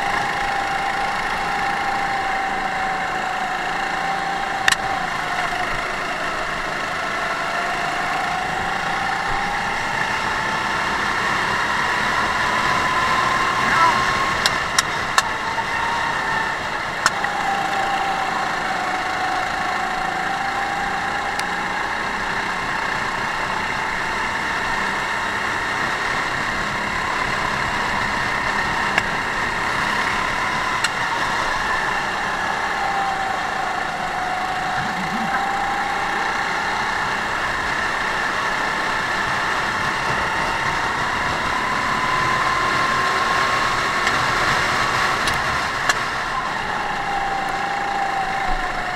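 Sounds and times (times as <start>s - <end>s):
racing kart engine: 0.0s - 48.9s.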